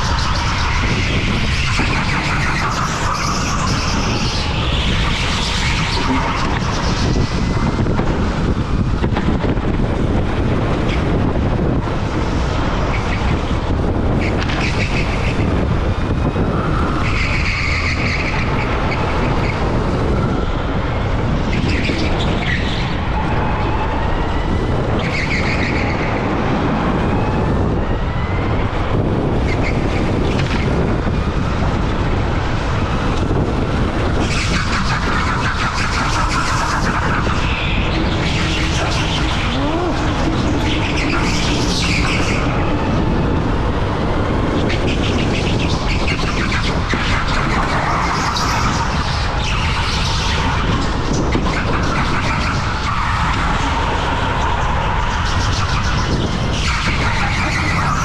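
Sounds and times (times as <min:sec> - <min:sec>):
go-kart rumble and motor whine: 0:00.0 - 0:58.0.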